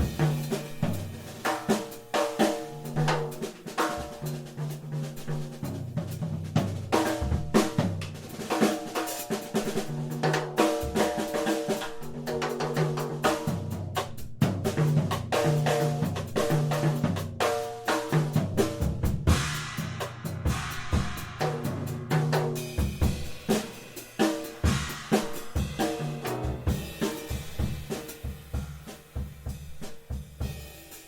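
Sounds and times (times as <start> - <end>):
drum kit: 0.0 - 31.0.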